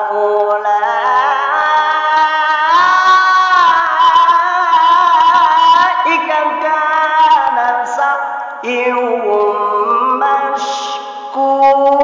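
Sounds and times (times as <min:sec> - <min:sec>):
man reciting in melodic chant: 0:00.0 - 0:12.0.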